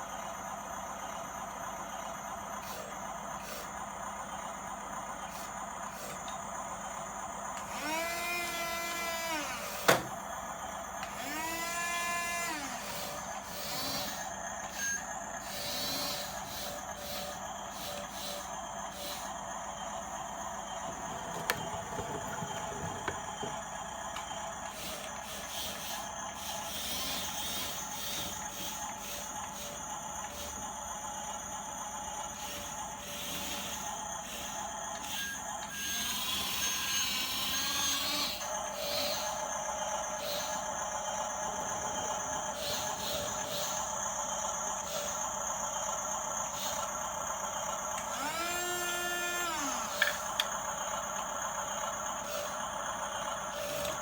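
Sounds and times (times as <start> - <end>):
electric motors whining: 1.0 - 54.0.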